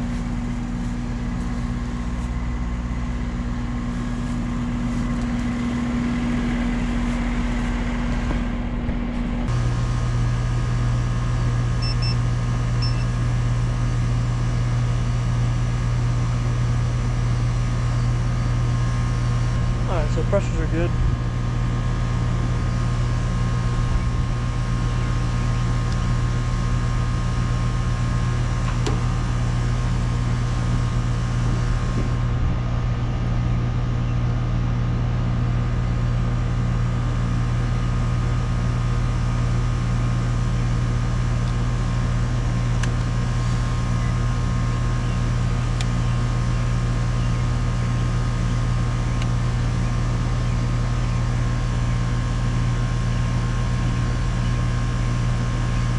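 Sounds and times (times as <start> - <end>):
air conditioner unit humming: 0.0 - 55.9.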